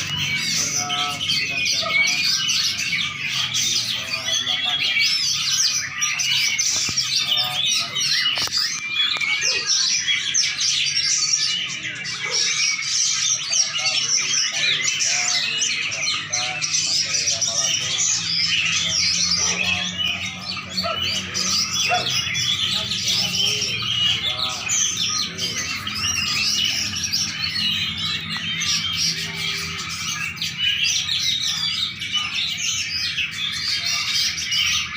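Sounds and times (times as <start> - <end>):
songbird chirps and trills: 0.0 - 34.9.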